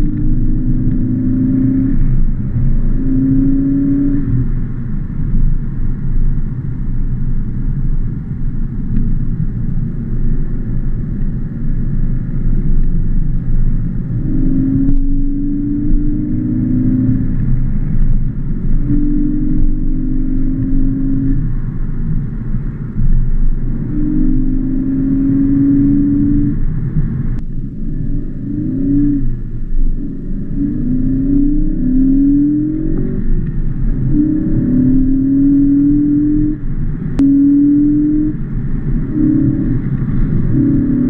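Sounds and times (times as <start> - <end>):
car engine rumble: 0.0 - 41.0
humming engine drone: 0.0 - 41.0.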